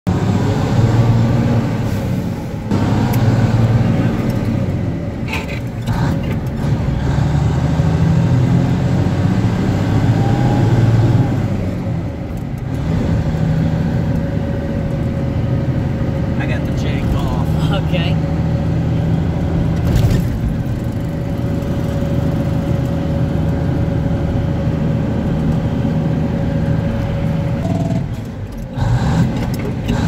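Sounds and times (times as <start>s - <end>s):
tractor diesel engine: 0.1s - 30.0s.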